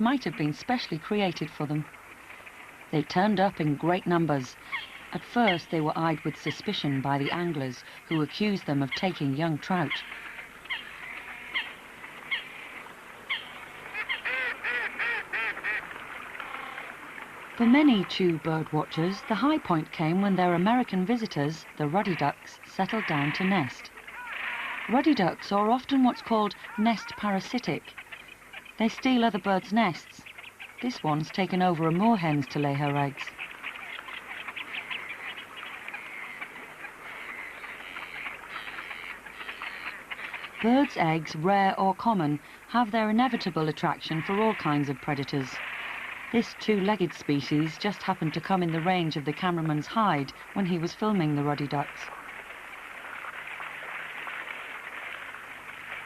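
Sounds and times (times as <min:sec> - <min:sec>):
waterbird calls: 0:00.0 - 0:56.0.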